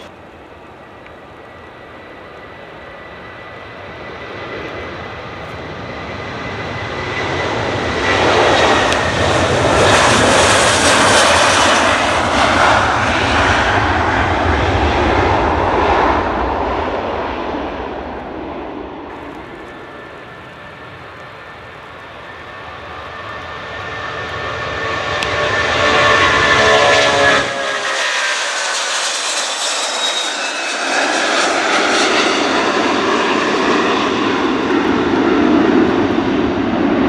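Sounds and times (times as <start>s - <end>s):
high engine whine: 0.0s - 37.0s
jet airliner taking off: 0.0s - 37.0s.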